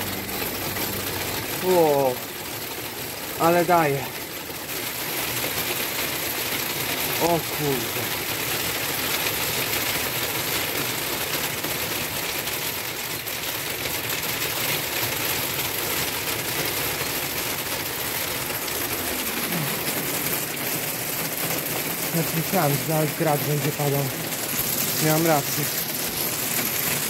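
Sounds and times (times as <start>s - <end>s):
small hail falling on wet paving: 0.0s - 27.0s.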